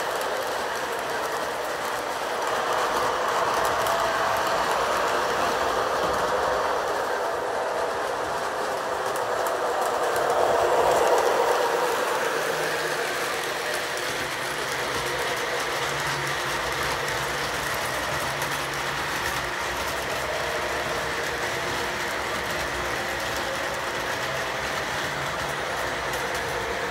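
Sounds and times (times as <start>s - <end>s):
model train rumbling on track: 0.0s - 26.9s.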